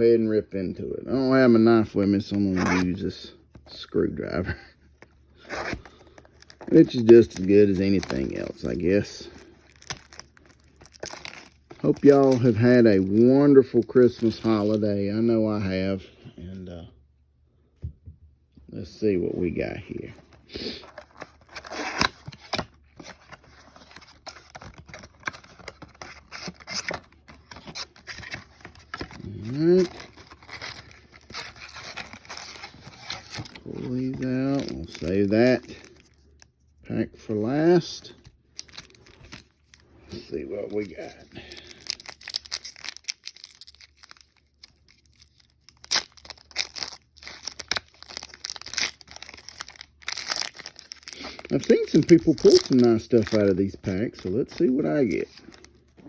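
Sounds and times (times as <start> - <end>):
card pack wrapper tearing and crinkling: 2.2 - 4.3, 5.0 - 15.0, 20.1 - 36.6, 37.8 - 56.0.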